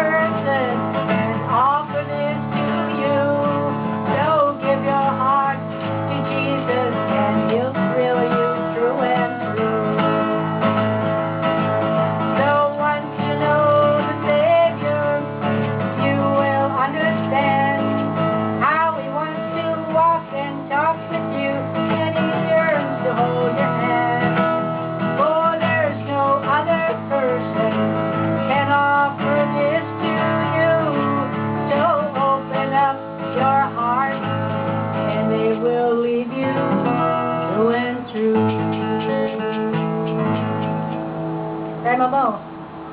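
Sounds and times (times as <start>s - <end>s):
acoustic guitar strummed and picked: 0.0s - 42.9s.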